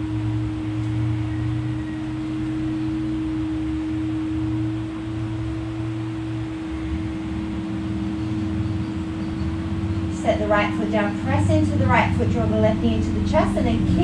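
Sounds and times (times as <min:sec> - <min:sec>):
ambient drone music: 0:00.0 - 0:14.0.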